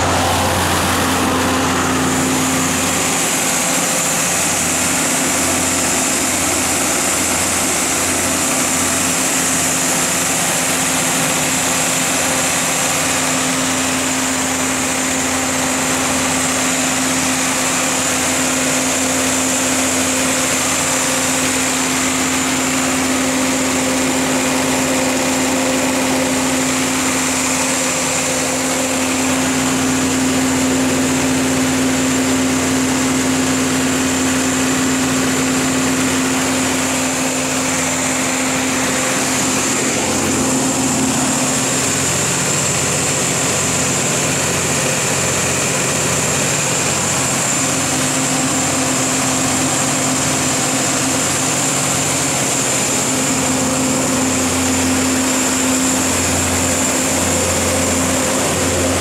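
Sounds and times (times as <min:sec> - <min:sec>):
diesel generator running: 0:00.0 - 0:59.0.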